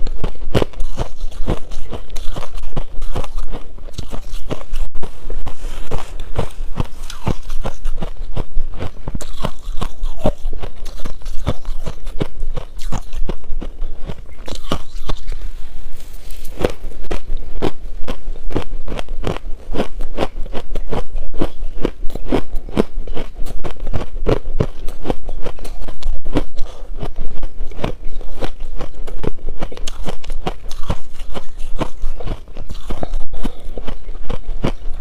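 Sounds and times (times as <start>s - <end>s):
shaved ice crunching chewing: 0.0s - 35.0s.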